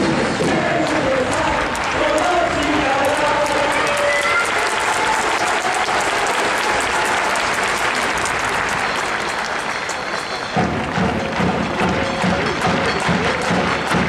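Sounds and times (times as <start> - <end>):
music: 0.0 - 5.5, 6.6 - 14.0
stadium crowd clapping: 0.0 - 14.0.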